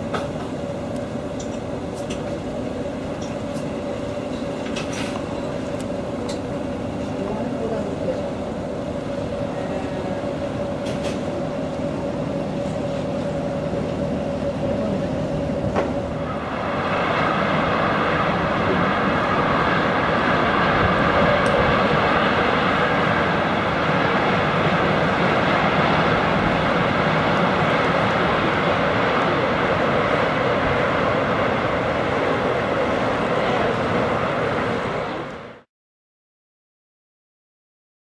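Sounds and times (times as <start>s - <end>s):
ship engine drone: 0.0s - 35.7s.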